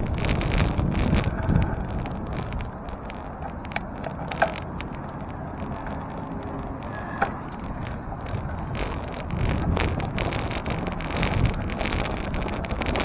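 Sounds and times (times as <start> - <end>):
road and traffic rumble: 0.0 - 13.0.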